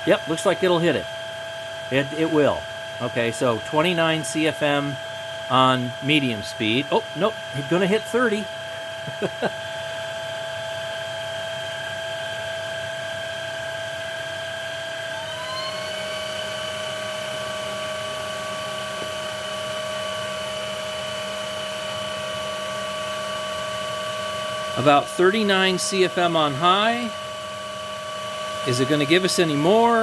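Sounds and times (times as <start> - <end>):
stick vacuum motor whining: 1.9 - 10.2, 14.1 - 30.0.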